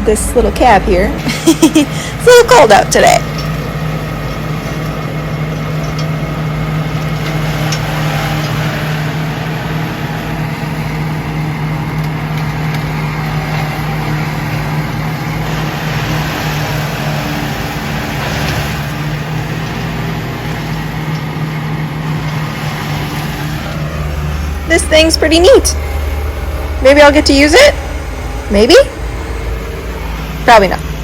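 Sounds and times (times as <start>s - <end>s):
heavy machinery engine droning: 0.0s - 31.0s.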